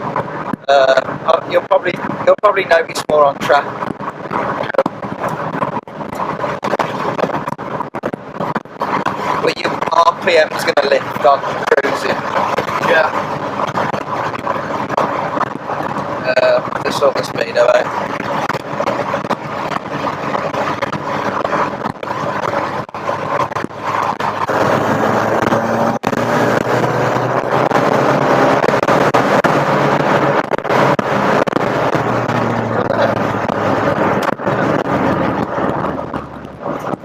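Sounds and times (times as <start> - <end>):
car engine under load: 0.0 - 37.0
microphone crackling: 0.0 - 37.0
tyre noise: 0.0 - 37.0
wind noise: 0.0 - 37.0.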